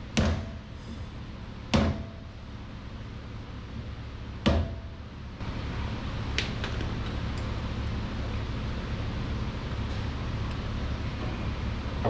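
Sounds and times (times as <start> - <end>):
low shop hum: 0.0 - 12.0.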